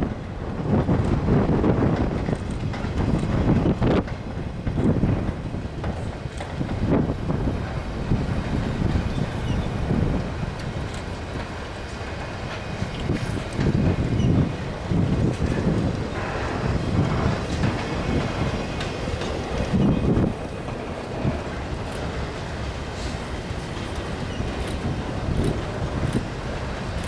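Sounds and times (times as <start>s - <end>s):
freight train rumbling past: 0.0s - 27.0s
train wheel clatter: 0.0s - 27.0s.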